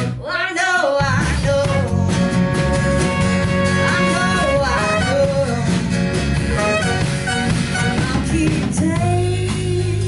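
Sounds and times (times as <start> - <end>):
person singing: 0.0 - 7.0, 7.6 - 10.0
bass and drums: 0.0 - 10.0
guitars: 0.0 - 10.0.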